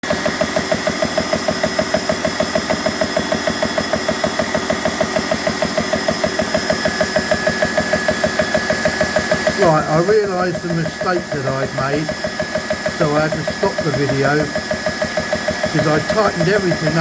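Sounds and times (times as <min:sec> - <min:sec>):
air compressor pumping: 0:00.0 - 0:17.0.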